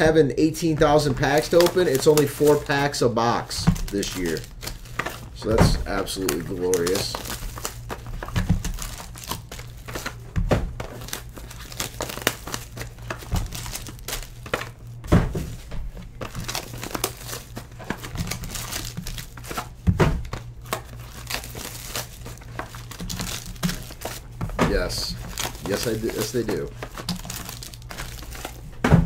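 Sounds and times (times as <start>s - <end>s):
foil packs crinkling: 0.0s - 28.8s.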